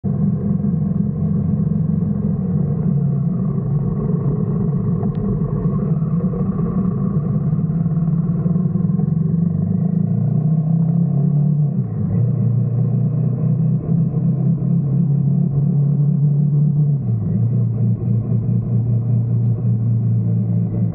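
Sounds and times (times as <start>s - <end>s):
motorcycle engine droning: 0.0s - 20.9s.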